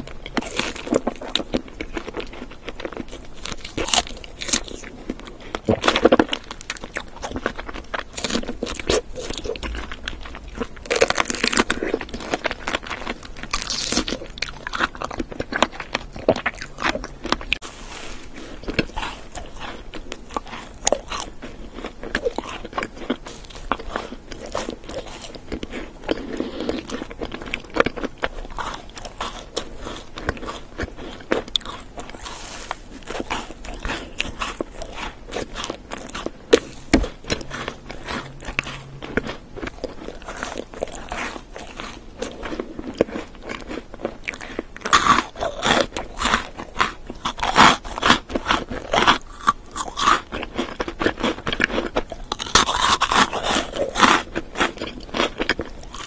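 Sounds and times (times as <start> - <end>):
crisp crunching bites: 0.0 - 56.0.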